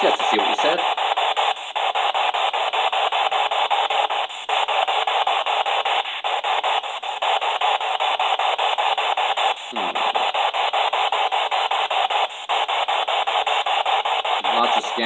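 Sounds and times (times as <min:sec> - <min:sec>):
choppy radio static and fragments: 0:00.0 - 0:15.0.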